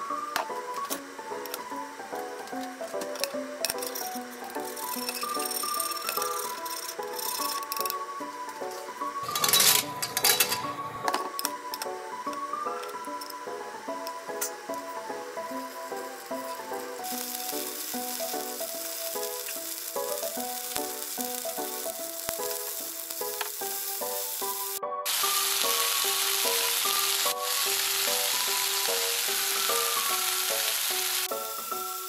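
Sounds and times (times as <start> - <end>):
shrimp sizzling in a frying pan: 0.0 - 8.0, 8.6 - 10.6, 11.7 - 32.0
background music with simple melody: 0.0 - 32.0.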